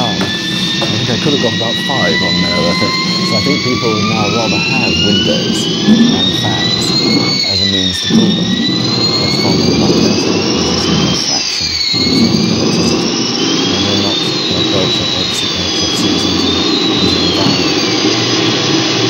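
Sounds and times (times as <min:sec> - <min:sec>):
high sliding whining tones: 0:00.0 - 0:19.0
jet engine roar: 0:00.0 - 0:19.0.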